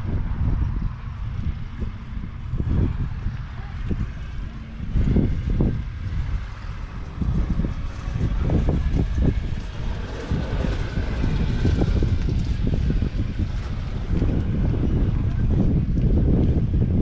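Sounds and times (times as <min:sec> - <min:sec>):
tractor engine rumbling: 0:00.0 - 0:17.0
wind buffeting microphone: 0:00.0 - 0:17.0.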